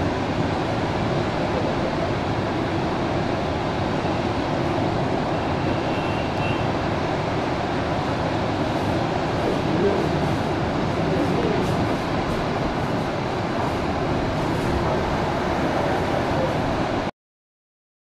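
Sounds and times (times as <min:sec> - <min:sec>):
river water rushing over rocks: 0:00.0 - 0:17.1.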